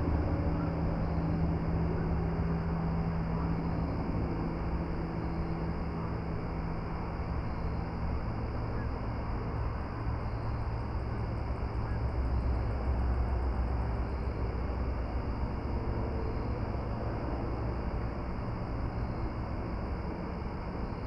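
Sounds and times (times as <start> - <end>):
low mechanical drone: 0.0 - 21.0.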